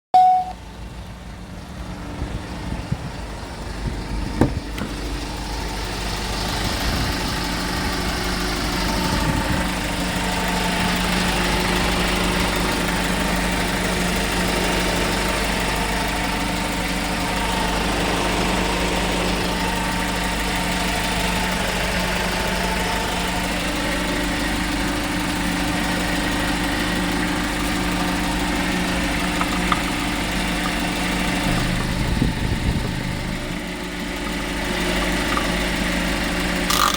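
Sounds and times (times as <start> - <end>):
diesel truck engine idling: 0.2 - 36.9.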